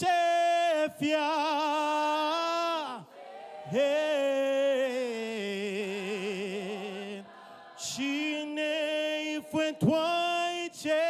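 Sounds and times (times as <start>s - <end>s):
worship singing: 0.0s - 11.0s.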